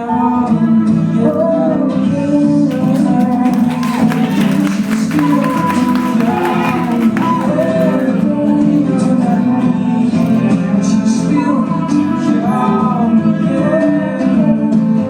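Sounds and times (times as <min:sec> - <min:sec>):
song with singing voice: 0:00.0 - 0:15.0.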